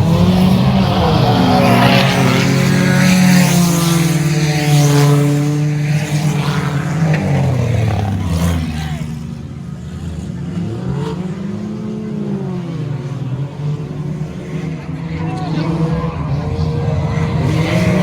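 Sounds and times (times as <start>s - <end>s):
distant engines: 0.0s - 18.0s
race car engines revving: 0.0s - 18.0s.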